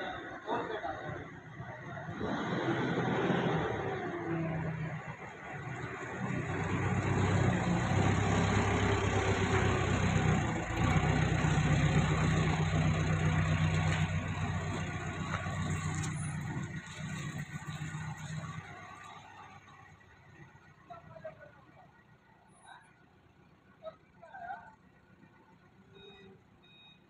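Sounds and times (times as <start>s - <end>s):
forklift engine humming: 0.0s - 27.0s.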